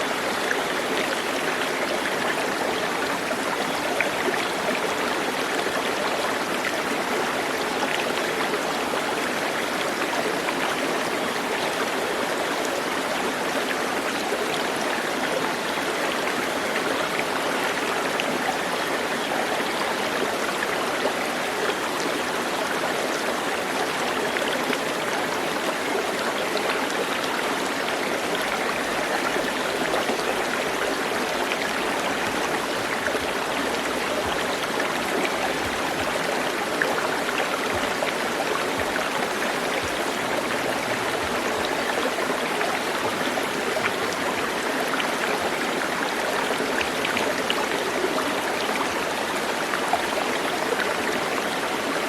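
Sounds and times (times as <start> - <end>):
stream of running water: 0.0 - 52.0.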